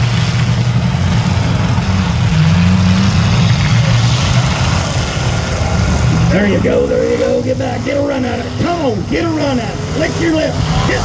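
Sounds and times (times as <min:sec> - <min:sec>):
engine revving: 0:00.0 - 0:11.0
stock car engines running: 0:00.0 - 0:11.0.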